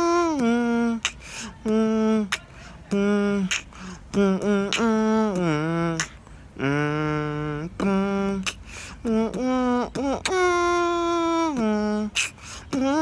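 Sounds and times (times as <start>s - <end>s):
man humming long notes: 0.0s - 13.0s.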